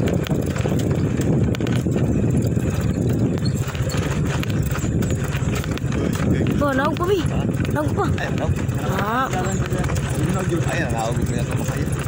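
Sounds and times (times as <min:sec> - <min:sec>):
footsteps on gravel road: 0:00.0 - 0:12.0.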